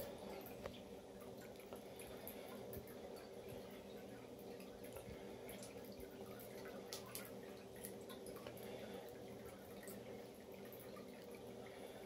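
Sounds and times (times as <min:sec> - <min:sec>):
low electric hum: 0:00.0 - 0:12.0
water trickling and dripping: 0:00.0 - 0:12.0.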